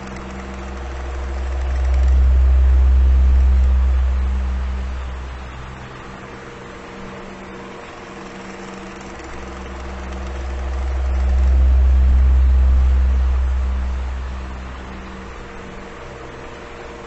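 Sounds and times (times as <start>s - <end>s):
deep rumble: 0.0s - 7.1s, 9.1s - 17.0s
electric fan running: 0.0s - 17.0s.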